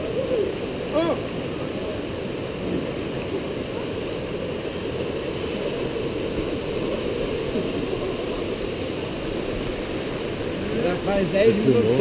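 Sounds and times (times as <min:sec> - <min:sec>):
waterfall rushing over rock: 0:00.0 - 0:12.0.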